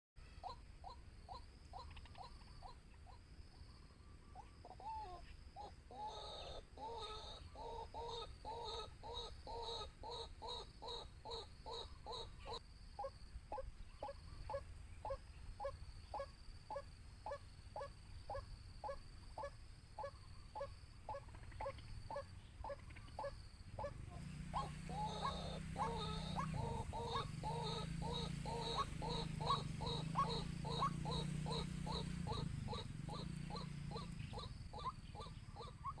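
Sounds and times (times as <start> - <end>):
waterhen calling repeated notes: 4.4 - 36.0.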